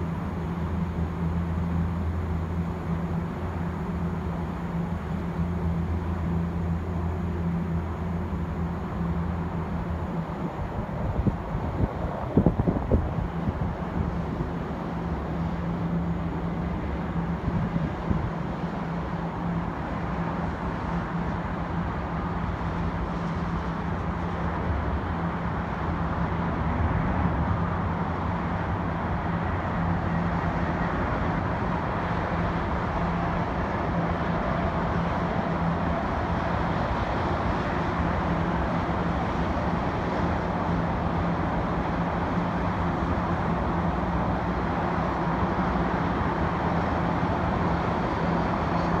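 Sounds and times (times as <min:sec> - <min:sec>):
airport ground noise: 0:00.0 - 0:49.0
constant low hum: 0:00.0 - 0:49.0
road traffic: 0:00.0 - 0:49.0.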